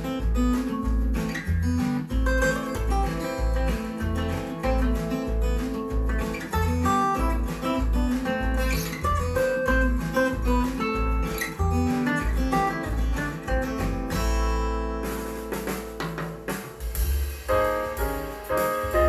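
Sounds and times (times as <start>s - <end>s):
folk music through speakers: 0.0s - 19.0s
jazz track: 0.0s - 19.0s.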